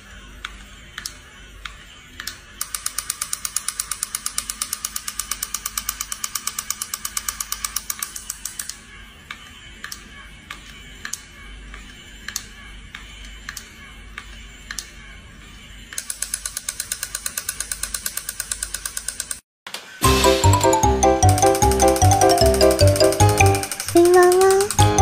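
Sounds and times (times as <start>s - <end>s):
toy gear mechanism clicking: 0.9s - 14.9s, 15.9s - 19.4s, 20.7s - 25.0s.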